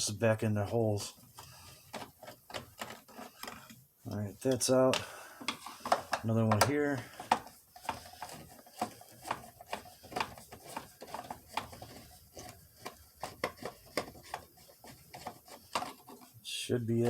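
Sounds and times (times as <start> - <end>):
plastic trim being handled: 0.6 - 17.0.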